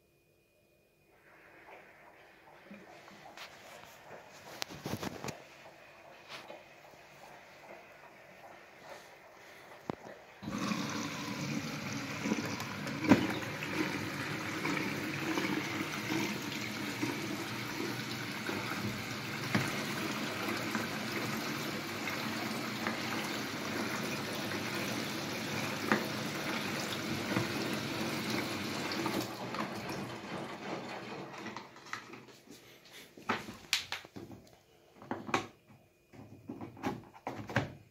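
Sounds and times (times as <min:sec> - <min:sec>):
water rushing into washing machine: 0:01.1 - 0:32.3.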